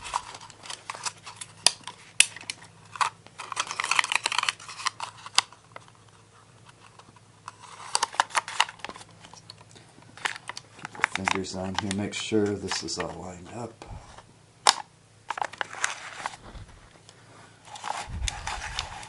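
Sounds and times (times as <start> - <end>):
film paper backing rustling: 0.0 - 19.0.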